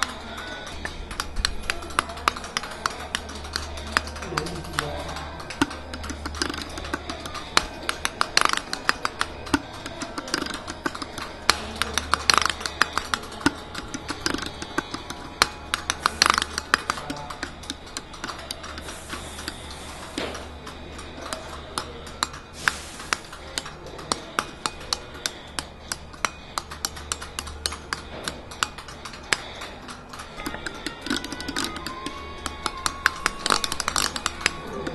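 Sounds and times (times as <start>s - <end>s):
relays clicking: 0.0s - 34.9s.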